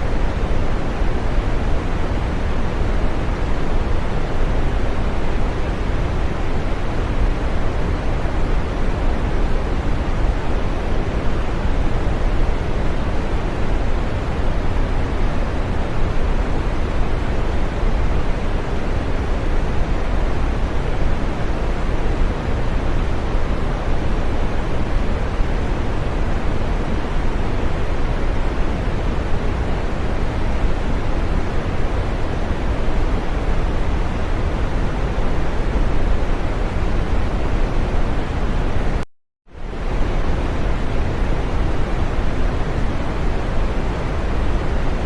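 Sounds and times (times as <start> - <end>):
steady green noise hiss: 0.0 - 45.0.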